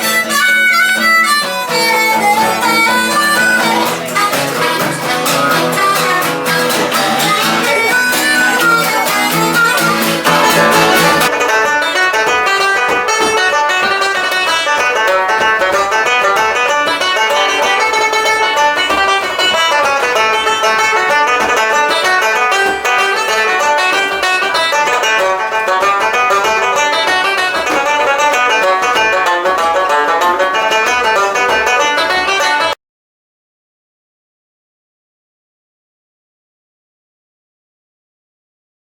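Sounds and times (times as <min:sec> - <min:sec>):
banjo playing dance tune: 0:00.0 - 0:32.8.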